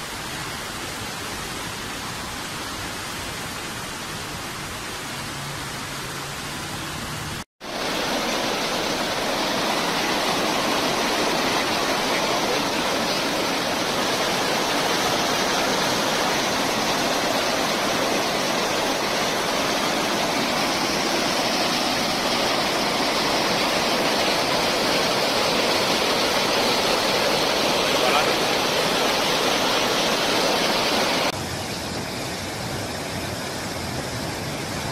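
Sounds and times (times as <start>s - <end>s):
flood water rushing: 0.0s - 34.9s.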